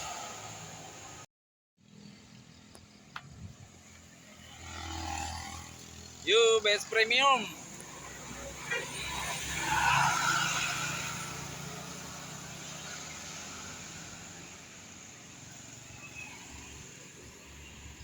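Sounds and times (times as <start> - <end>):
bus driving past: 1.8 - 18.0.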